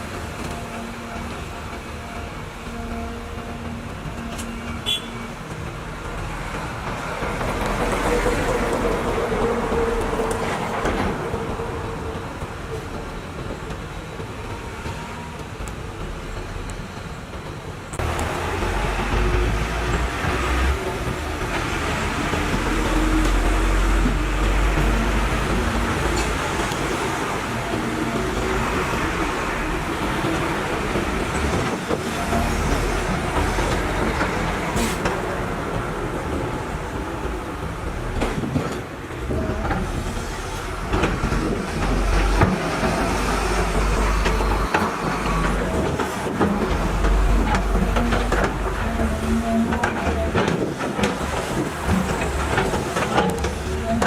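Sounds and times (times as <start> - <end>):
excavator diesel engine rumbling: 0.0 - 54.0.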